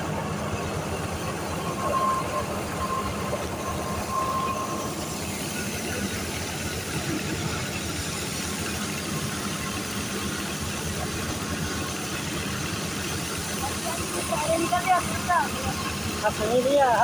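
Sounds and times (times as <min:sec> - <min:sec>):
wheat thresher running: 0:00.0 - 0:17.0.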